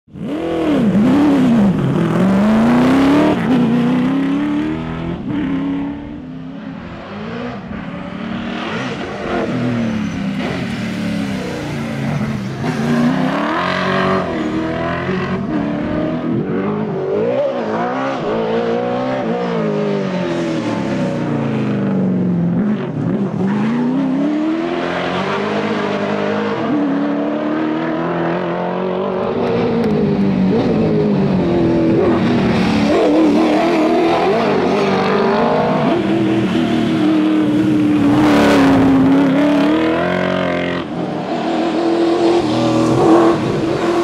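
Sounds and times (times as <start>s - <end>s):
car engine revving: 0.1s - 44.0s.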